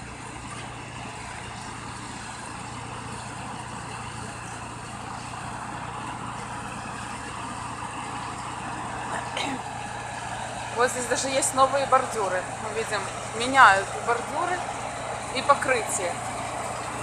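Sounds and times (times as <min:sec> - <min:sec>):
low engine hum: 0:00.0 - 0:17.0
road milling machine running: 0:00.0 - 0:17.0.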